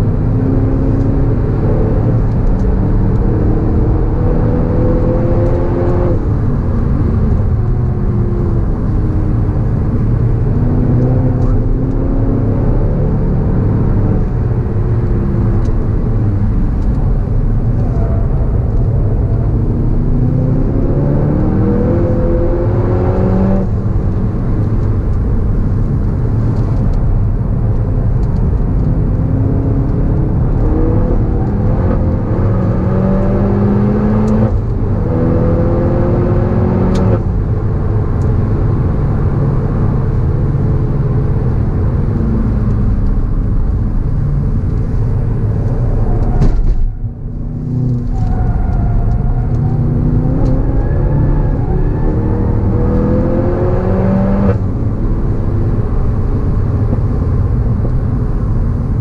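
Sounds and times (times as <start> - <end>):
heavy low rumble: 0.0 - 36.0, 36.6 - 54.0
car engine accelerating hard: 0.0 - 59.0.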